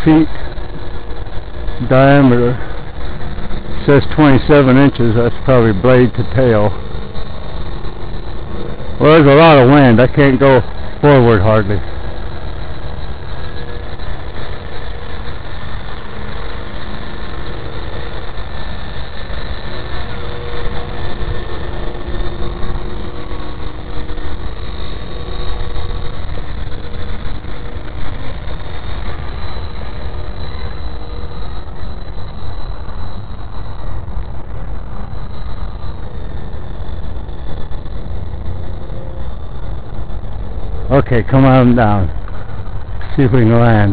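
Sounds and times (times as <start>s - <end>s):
toy helicopter motor whining: 0.0s - 43.9s
wind rumble on microphone: 0.0s - 43.9s.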